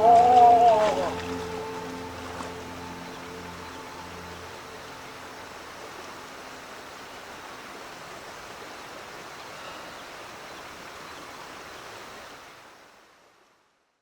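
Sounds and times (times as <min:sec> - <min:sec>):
stream water rushing over rocks: 0:00.0 - 0:13.5.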